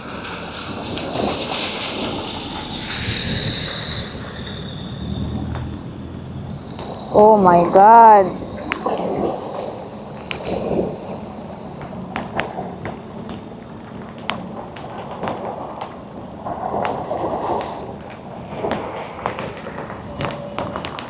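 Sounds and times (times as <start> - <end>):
sea and rain: 0.0 - 21.0
wind buffeting microphone: 0.0 - 21.0.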